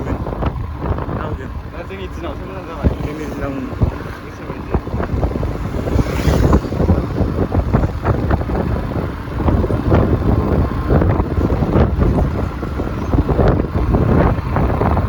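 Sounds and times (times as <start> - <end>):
scooter engine and road noise: 0.0 - 15.0
wind buffeting microphone: 0.0 - 15.0.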